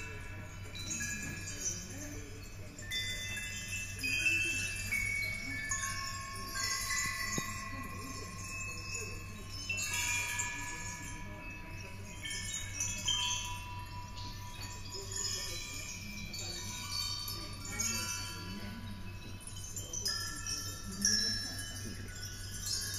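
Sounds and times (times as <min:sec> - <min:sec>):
chime-like tinkling: 0:00.0 - 0:22.9.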